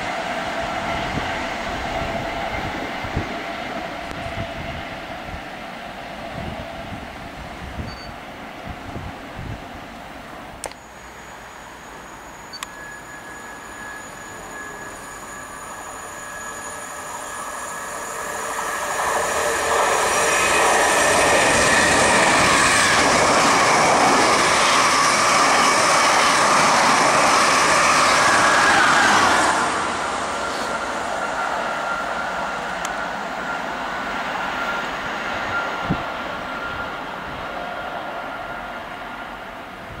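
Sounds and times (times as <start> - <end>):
train approaching with high whine: 0.0 - 40.0
train wheels and coaches rushing past: 0.0 - 40.0.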